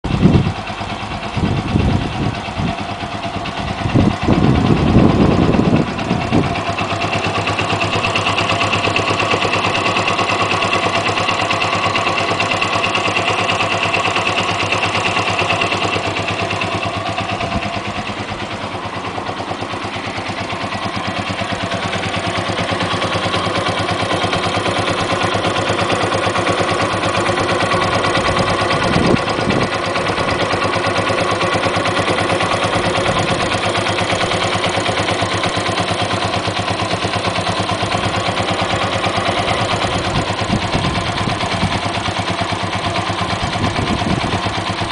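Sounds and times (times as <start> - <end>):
motorcycle engine idling: 0.0 - 44.9
high-pitched engine clicking: 0.1 - 44.9.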